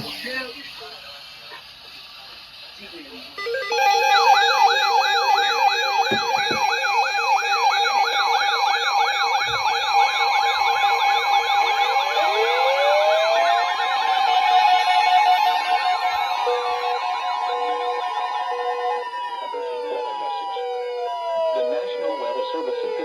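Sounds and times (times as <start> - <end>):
siren fast yelp: 3.4 - 23.0
siren slow wail: 3.4 - 23.0
steady siren tone: 3.4 - 23.0
low two-note siren warble: 3.6 - 23.0.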